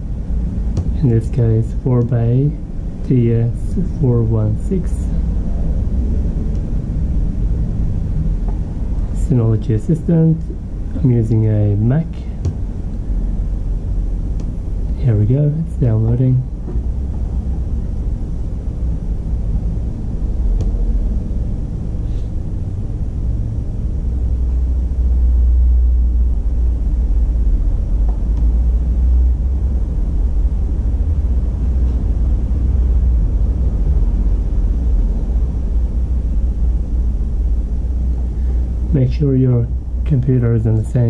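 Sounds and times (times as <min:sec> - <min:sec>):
low steady rumble: 0:00.0 - 0:41.0.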